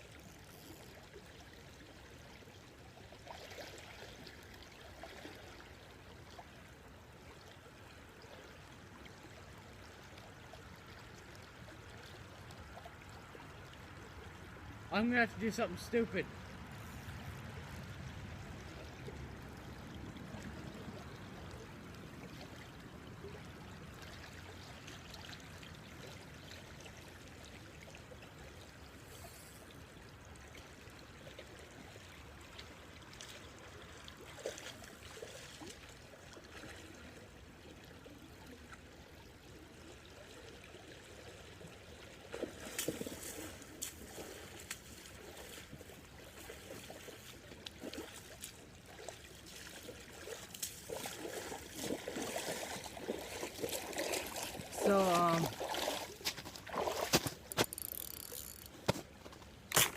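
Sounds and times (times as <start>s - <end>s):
creek water trickling: 0.0s - 59.9s.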